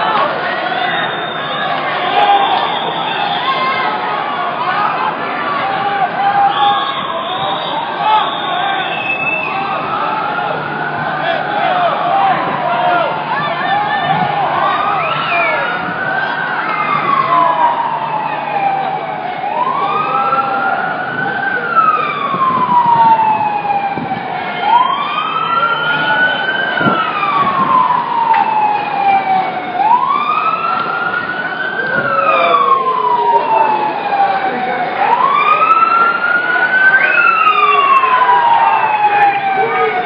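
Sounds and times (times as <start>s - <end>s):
siren wailing: 0.0s - 40.0s
street noise: 0.0s - 40.0s
faint second gliding siren: 5.4s - 40.0s.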